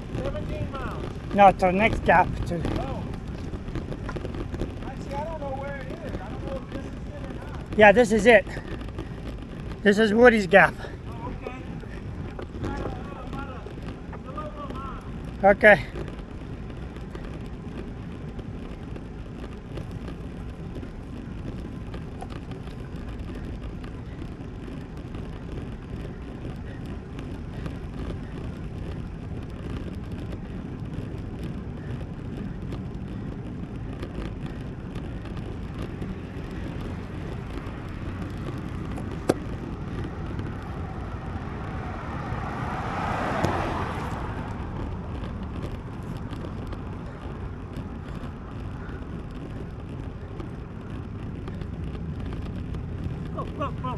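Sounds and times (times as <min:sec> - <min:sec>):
car passing: 0:00.0 - 0:53.9
wind and road noise: 0:00.0 - 0:53.9.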